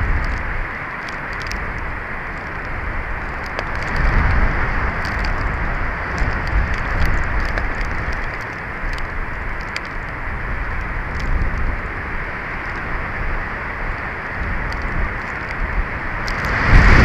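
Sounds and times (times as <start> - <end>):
faint ticks and crackles: 0.0 - 17.0
wind buffeting microphone: 0.0 - 17.0.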